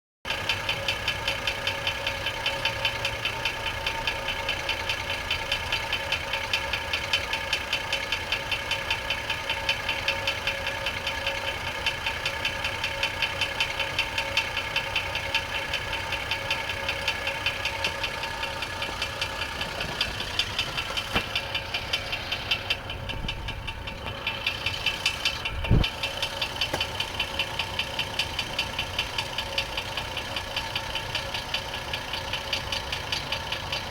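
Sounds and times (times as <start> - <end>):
engine idling: 0.3 - 33.9
rhythmic engine knock: 0.3 - 33.9.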